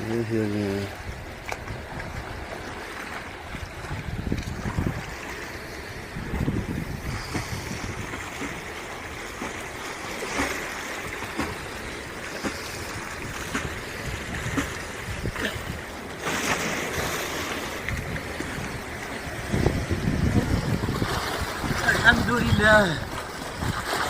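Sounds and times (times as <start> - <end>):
waves washing on a beach: 0.0 - 24.0.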